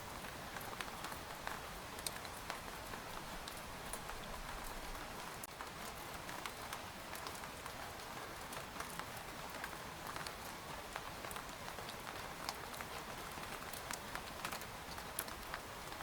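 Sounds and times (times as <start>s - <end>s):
rain falling on a tent: 0.0s - 16.0s.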